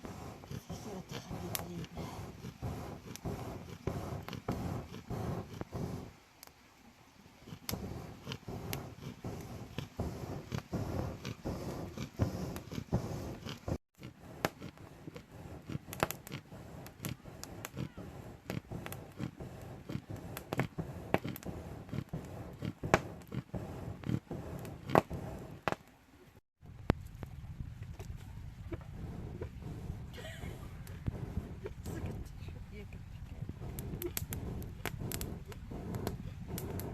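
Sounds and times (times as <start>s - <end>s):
wood fire crackling and popping: 0.0s - 6.5s, 7.5s - 25.9s, 26.7s - 36.9s.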